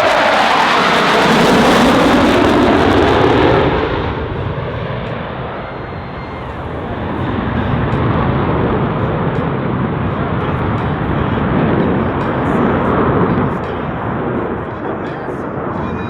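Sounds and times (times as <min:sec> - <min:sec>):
jet passing low: 0:00.0 - 0:16.0.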